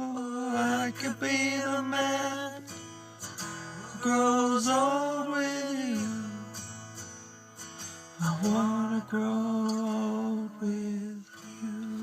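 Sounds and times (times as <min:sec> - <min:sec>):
acoustic guitar chord: 0:00.0 - 0:12.0.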